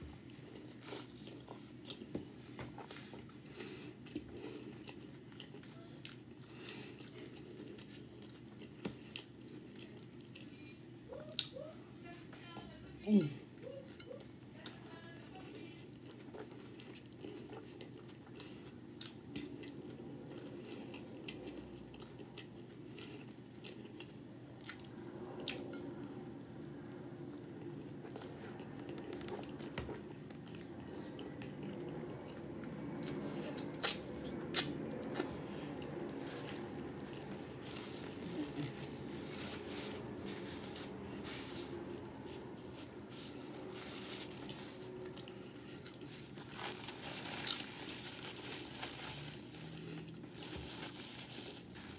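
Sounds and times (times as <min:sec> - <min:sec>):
wet chewing sounds: 0:00.1 - 0:11.6, 0:15.8 - 0:50.7.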